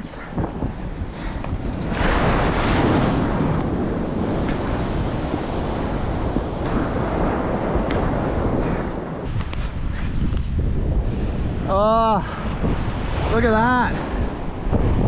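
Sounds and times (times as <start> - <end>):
wind buffeting the microphone: 0.0 - 15.0
surf washing up the beach: 0.5 - 15.0.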